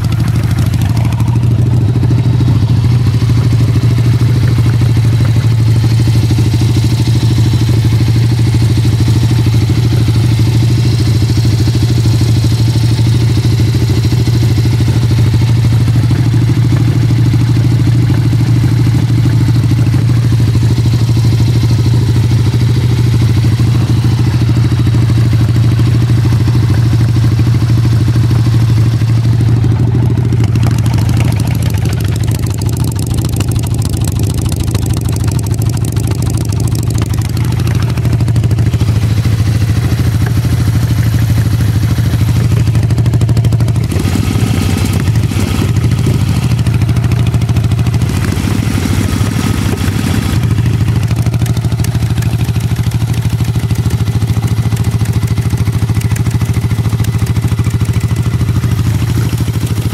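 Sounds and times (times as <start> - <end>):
motorcycle engine fast idle: 0.0 - 59.9.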